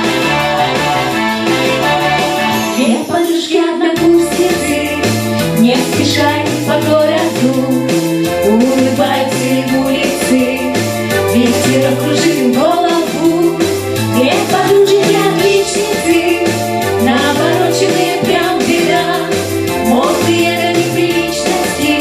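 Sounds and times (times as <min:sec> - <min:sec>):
instrumental accompaniment with beat: 0:00.0 - 0:03.4, 0:04.0 - 0:22.0
person singing: 0:00.0 - 0:22.0.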